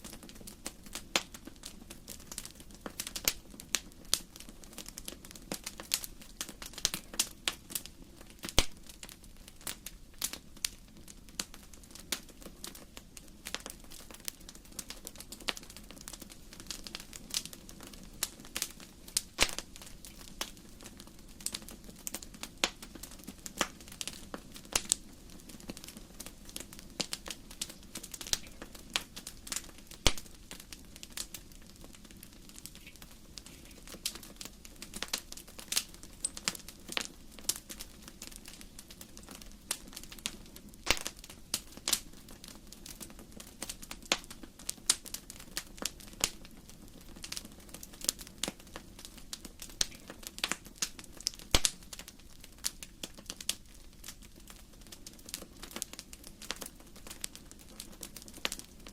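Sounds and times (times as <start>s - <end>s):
firewood crackling and popping: 0.0s - 58.9s
low sound of flames: 0.0s - 58.9s.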